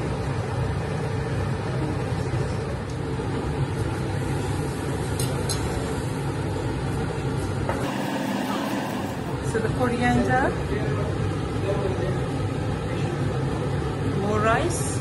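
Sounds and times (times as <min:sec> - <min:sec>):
kitchen background rumble and hiss: 0:00.0 - 0:15.0.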